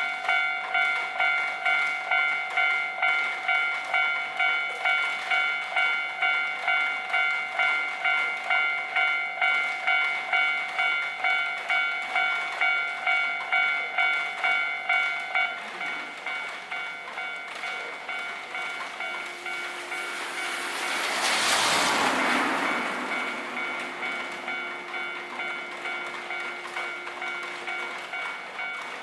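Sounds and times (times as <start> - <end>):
level crossing warning bell: 0.0 - 29.0.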